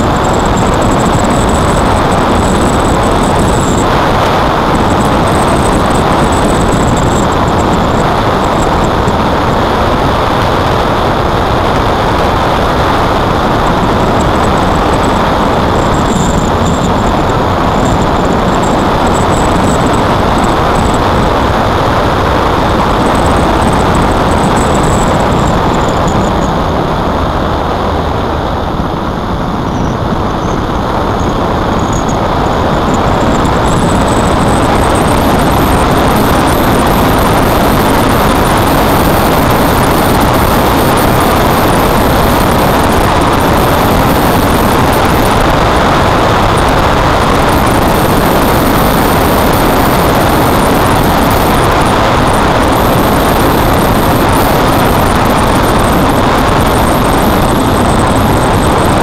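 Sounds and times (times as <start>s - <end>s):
motorcycle engine: 0.0s - 59.0s
road noise: 0.0s - 59.0s
wind on microphone: 0.0s - 59.0s.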